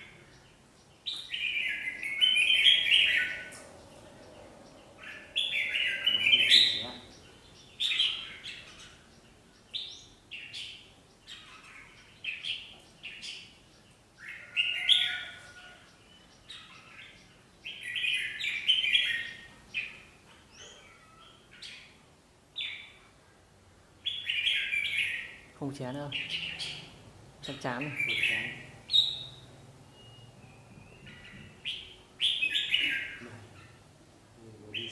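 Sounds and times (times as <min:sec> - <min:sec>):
caged birds chirping: 0:00.0 - 0:34.9.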